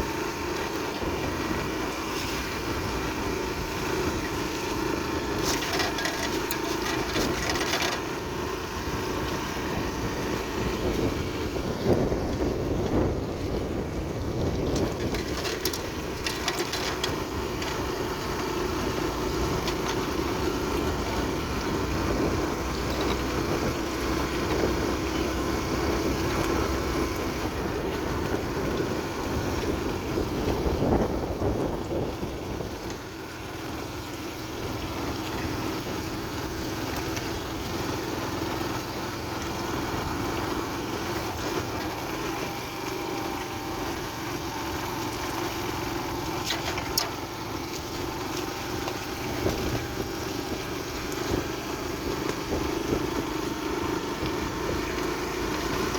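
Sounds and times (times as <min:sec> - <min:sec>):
motorbike engine running: 0:00.0 - 0:55.9.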